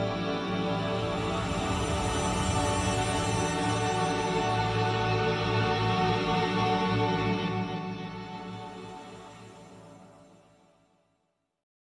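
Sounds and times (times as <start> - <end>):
background music: 0.0 - 11.2.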